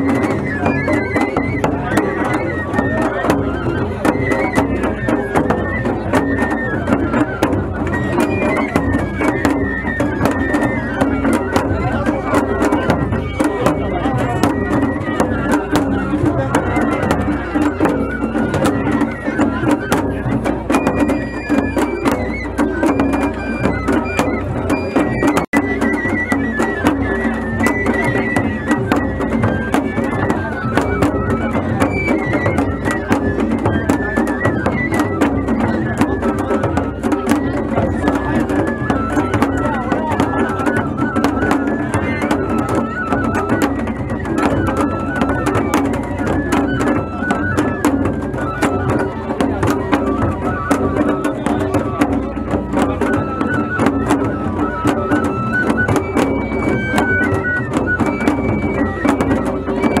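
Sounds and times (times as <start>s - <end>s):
high wavering flute melody: 0.0s - 60.0s
large taiko drum beating: 0.0s - 60.0s.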